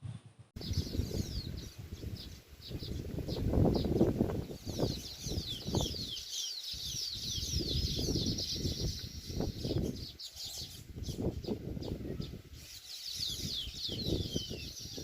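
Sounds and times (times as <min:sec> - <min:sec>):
weaver birds chattering: 0:00.6 - 0:15.0.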